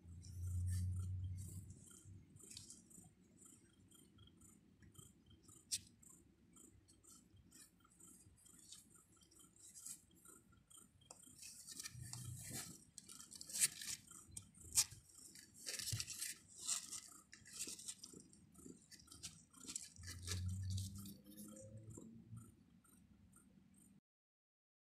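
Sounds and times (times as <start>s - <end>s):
kittens suckling: 0.1s - 22.0s.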